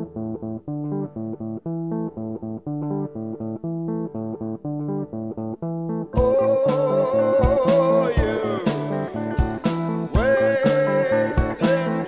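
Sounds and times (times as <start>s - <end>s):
plucked string riff: 0.0s - 12.0s.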